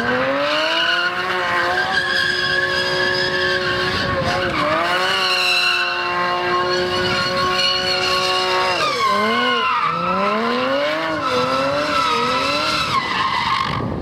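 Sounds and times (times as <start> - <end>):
car engine revving high: 0.0 - 13.2
tyres squealing on tarmac: 0.8 - 13.9.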